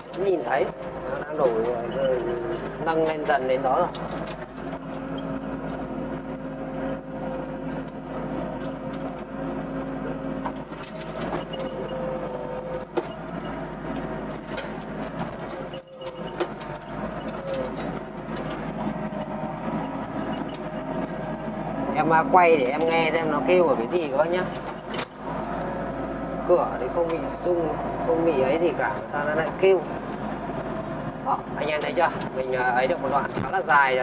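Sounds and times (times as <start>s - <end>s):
excavator engine and hydraulics: 0.0s - 34.0s.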